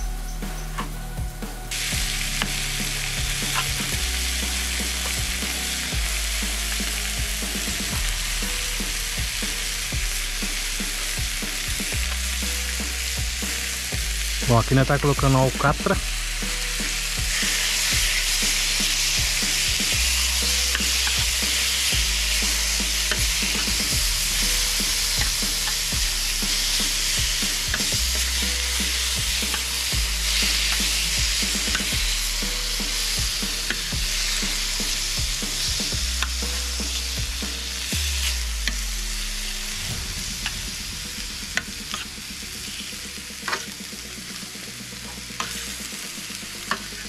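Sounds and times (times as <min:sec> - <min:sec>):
steak sizzling in a pan: 0:00.2 - 0:47.0.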